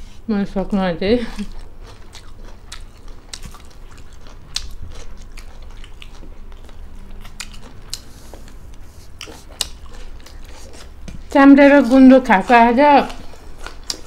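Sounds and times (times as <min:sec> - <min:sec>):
close chewing with wet clicks: 0:01.4 - 0:11.4, 0:12.3 - 0:14.0
food crunching: 0:01.4 - 0:14.0.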